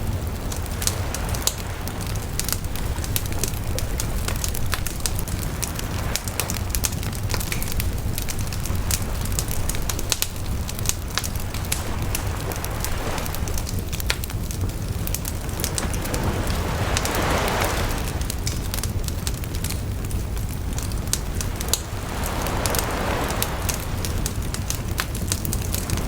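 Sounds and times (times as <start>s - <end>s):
bonfire crackling and popping: 0.0s - 26.0s
low fire rumble: 0.0s - 26.0s.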